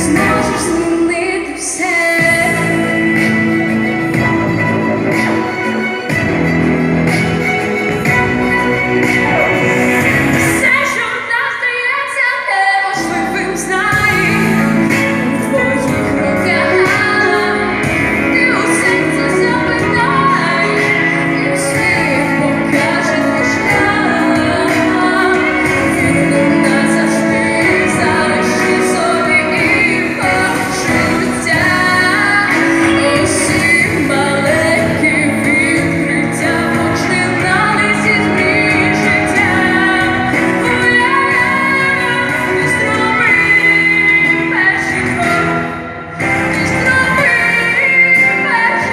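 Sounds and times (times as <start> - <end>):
instrumental accompaniment: 0.0 - 11.6, 12.9 - 48.9
woman singing into microphone: 0.0 - 48.9.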